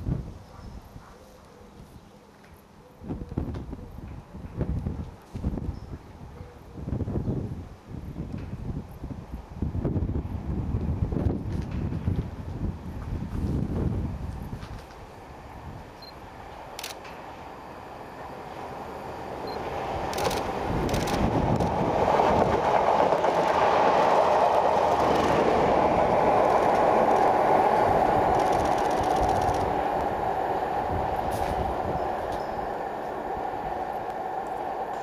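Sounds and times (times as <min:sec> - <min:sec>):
train passing with wheel rumble: 0:03.6 - 0:35.0.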